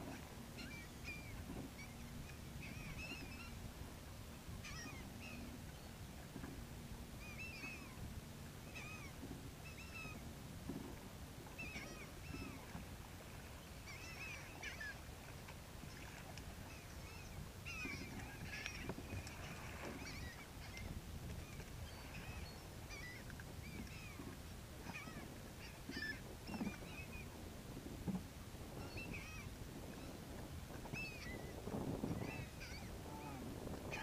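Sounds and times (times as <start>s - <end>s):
gulls calling: 0.0s - 3.6s, 4.6s - 5.9s, 7.2s - 8.0s, 8.6s - 10.2s, 11.5s - 27.4s, 28.7s - 34.0s
low steady rumble: 0.0s - 34.0s.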